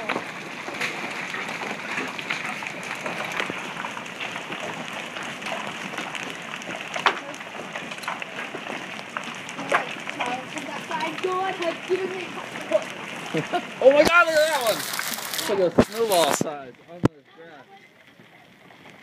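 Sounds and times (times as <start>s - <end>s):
hailstones pelting down: 0.0s - 19.0s.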